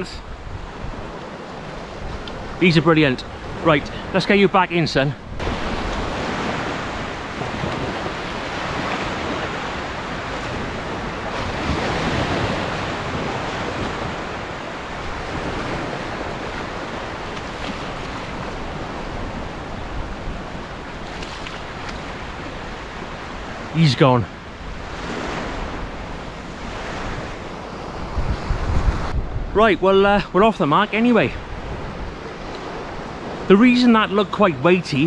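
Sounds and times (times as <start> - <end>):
wind buffeting microphone: 0.0 - 4.2, 5.2 - 23.7, 24.3 - 30.6, 31.2 - 33.5
small waves breaking on beach: 0.0 - 35.0.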